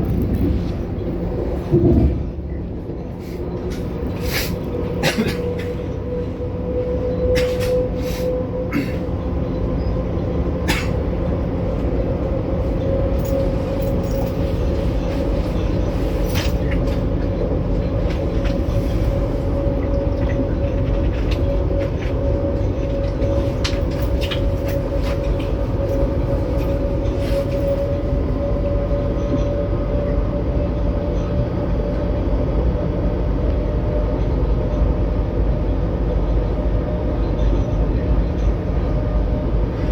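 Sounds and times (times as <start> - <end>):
electric train rumble: 0.0 - 39.9.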